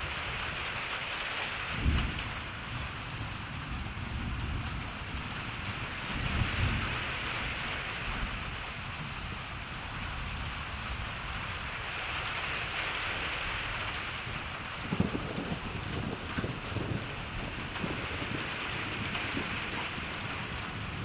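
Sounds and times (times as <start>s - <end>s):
steady rain falling: 0.0s - 21.0s
low rumble of thunder: 1.6s - 21.0s.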